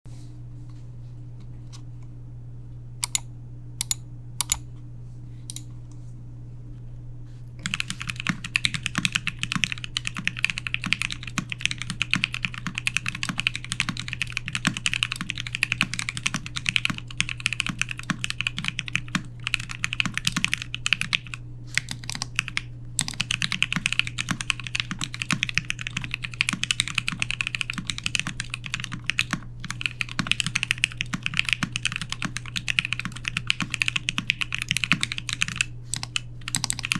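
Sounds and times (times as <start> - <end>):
mechanical keyboard typing: 3.0 - 4.6, 7.6 - 36.9.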